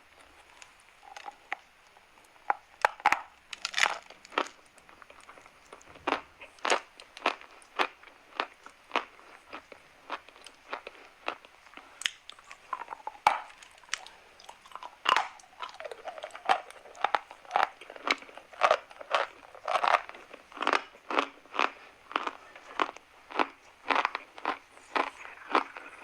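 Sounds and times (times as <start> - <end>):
chalk being chewed: 3.8 - 26.0.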